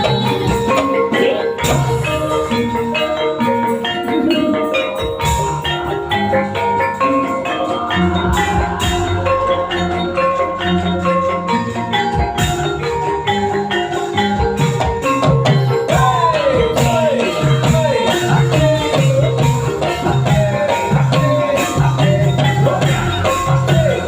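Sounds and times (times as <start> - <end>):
metallophones playing fast notes: 0.0 - 24.0
steady drumming: 0.0 - 24.0.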